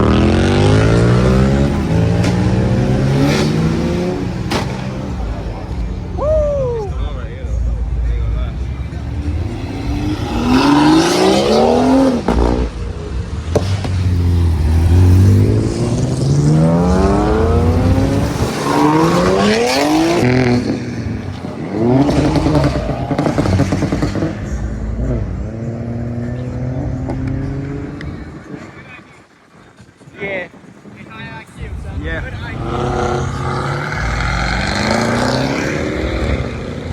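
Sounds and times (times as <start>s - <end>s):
car engine revving: 0.0s - 6.2s, 7.2s - 28.5s, 31.7s - 36.9s.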